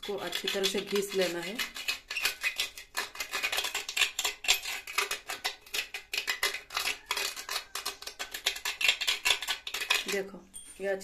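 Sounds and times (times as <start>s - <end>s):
rod scraping clay pot rim: 0.0s - 10.4s.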